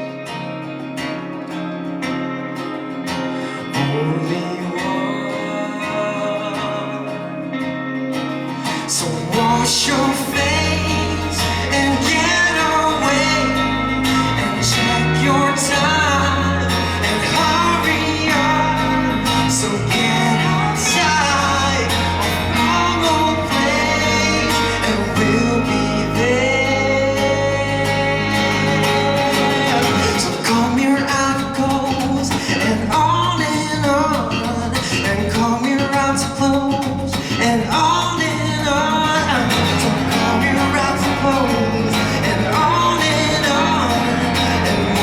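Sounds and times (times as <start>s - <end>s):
guitar: 0.0s - 45.0s
person singing: 3.4s - 7.9s, 8.5s - 45.0s
bass line: 8.8s - 45.0s.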